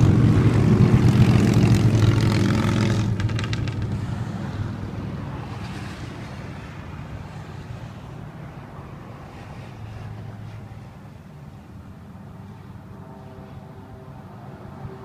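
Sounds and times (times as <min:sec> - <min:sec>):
motorcycle engines passing: 0:00.0 - 0:15.0.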